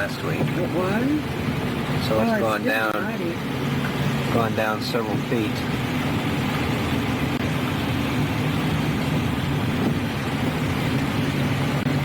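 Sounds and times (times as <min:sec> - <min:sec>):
car engine running: 0:00.0 - 0:12.0
road and wind noise: 0:00.0 - 0:12.0.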